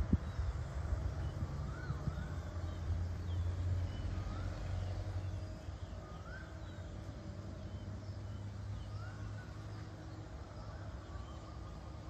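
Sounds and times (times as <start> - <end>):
steady low rumble: 0.0 - 12.0
whistled bird calls: 0.1 - 12.0.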